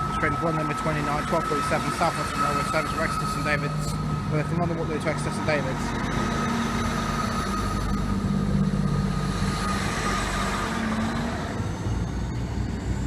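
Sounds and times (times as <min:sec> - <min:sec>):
diesel train engines under power: 0:00.0 - 0:13.0
steady whine: 0:00.0 - 0:13.0.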